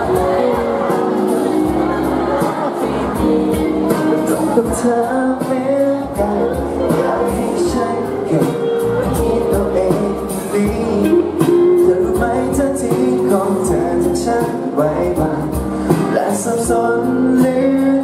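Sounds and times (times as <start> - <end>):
man singing into a microphone: 0.0 - 18.0
pop backing track: 0.0 - 18.0.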